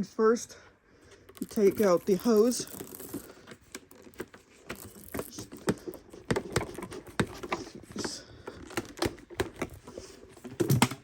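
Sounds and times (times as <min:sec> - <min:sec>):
plastic vacuum parts rattling: 0:01.1 - 0:11.0.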